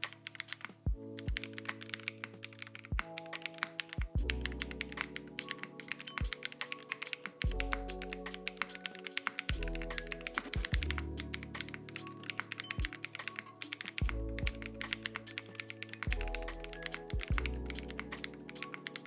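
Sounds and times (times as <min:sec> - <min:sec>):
background music with chords: 0:00.0 - 0:19.0
mechanical keyboard typing: 0:00.0 - 0:19.0.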